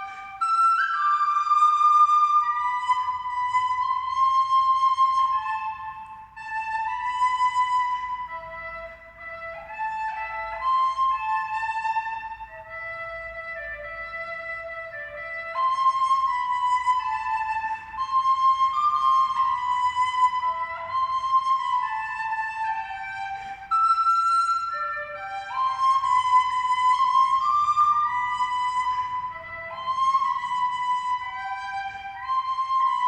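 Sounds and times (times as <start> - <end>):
slow flute-like melody: 0.0 - 33.0.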